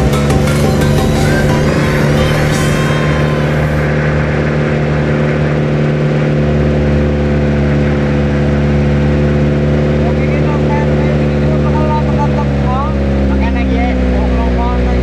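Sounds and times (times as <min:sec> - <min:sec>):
pickup engine labouring: 0:00.0 - 0:15.0.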